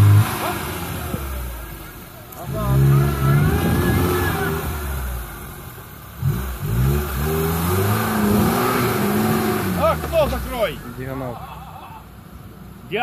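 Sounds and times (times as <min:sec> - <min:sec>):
car engine revving hard: 0:00.0 - 0:11.3.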